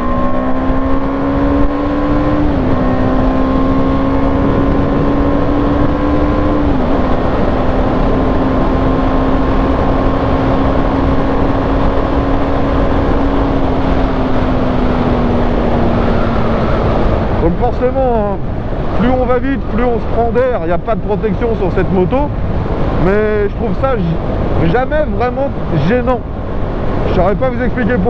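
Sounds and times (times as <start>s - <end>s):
motorcycle engine at full throttle: 0.0s - 28.0s
wind noise: 0.0s - 28.0s.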